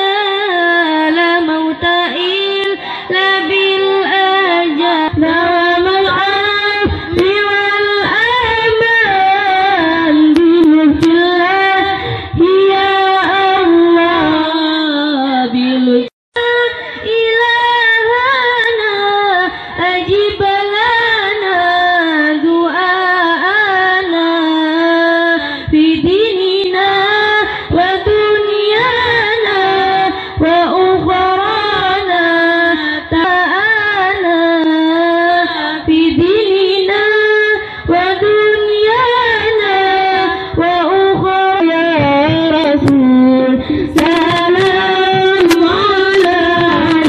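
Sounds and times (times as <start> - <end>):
women chanting devotional song: 0.0 - 47.0.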